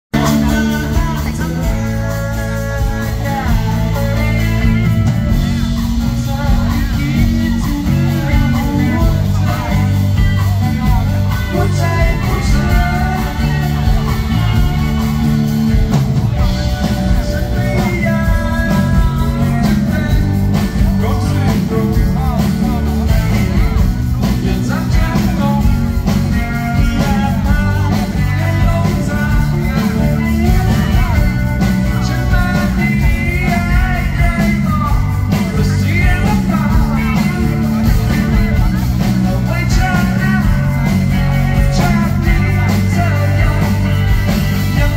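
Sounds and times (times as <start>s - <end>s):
live rock band: 0.1s - 44.9s
man singing: 0.1s - 44.9s.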